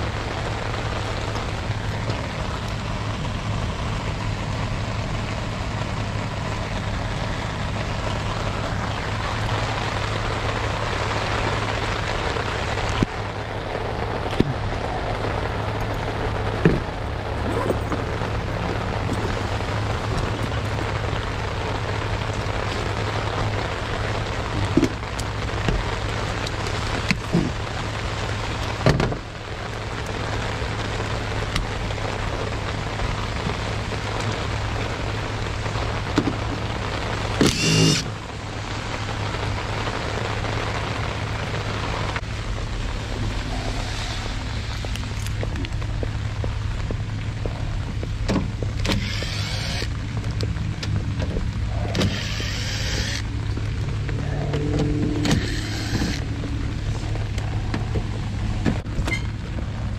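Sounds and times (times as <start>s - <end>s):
continuous rushing noise: 0.0s - 59.9s.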